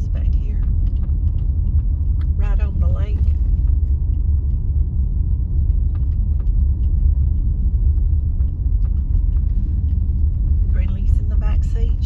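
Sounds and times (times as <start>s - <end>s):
car driving slowly interior rumble: 0.0s - 12.0s.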